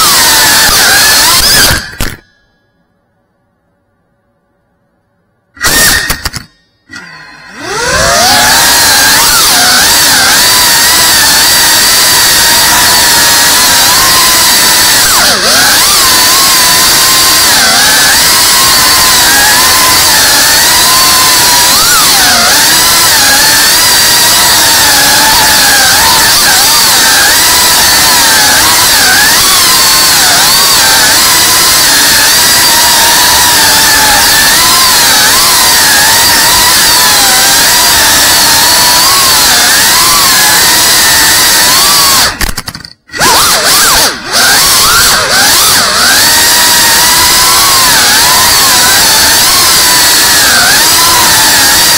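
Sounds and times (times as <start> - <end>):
quadcopter motors whining: 0.0 - 2.2, 5.6 - 51.9.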